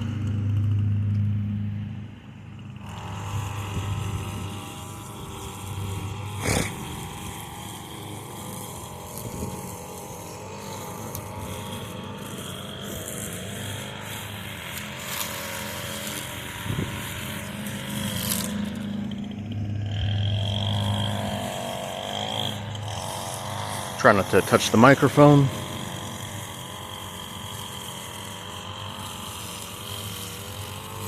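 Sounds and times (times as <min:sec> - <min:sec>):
riding lawn mower engine: 0:00.0 - 0:31.0
string trimmer engine: 0:00.0 - 0:31.0.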